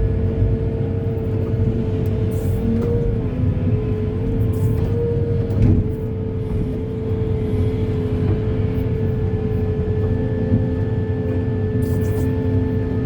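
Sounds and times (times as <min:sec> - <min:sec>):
diesel engine rumble and whine: 0:00.0 - 0:13.0.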